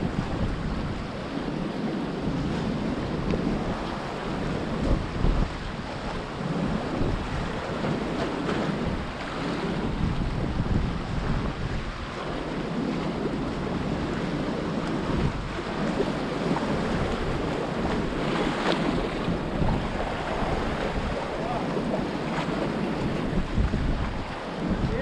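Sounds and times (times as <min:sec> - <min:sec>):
sea waves splashing on concrete: 0:00.0 - 0:25.0
wind buffeting microphone: 0:00.0 - 0:25.0.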